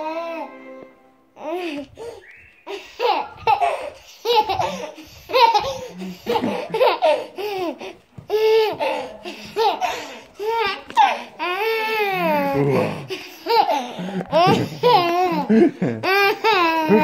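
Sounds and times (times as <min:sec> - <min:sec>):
toddler laughing: 0:01.4 - 0:17.0.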